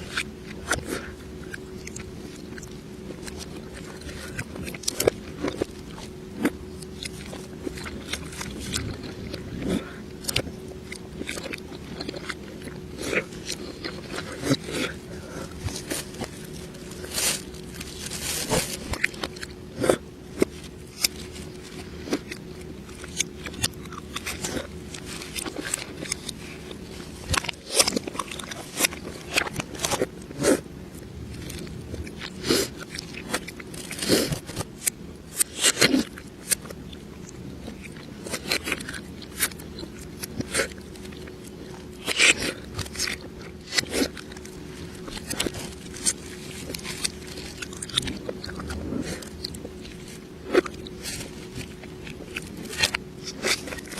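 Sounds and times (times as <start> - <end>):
faint steady hum: 0.0 - 53.9
reversed crunching and chewing: 0.0 - 53.9.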